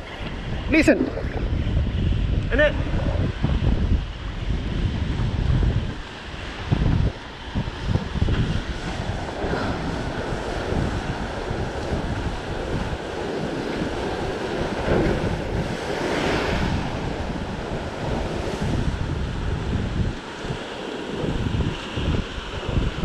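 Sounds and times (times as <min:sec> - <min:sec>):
surf breaking over rocks: 0:00.0 - 0:23.0
wind buffeting microphone: 0:00.0 - 0:23.0.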